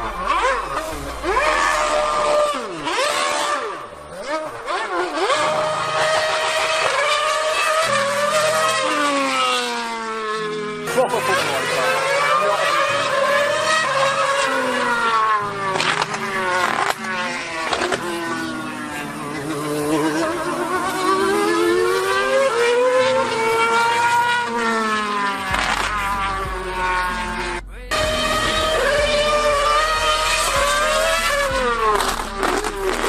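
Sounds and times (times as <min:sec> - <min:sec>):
racing car engine at high revs: 0:00.0 - 0:33.0.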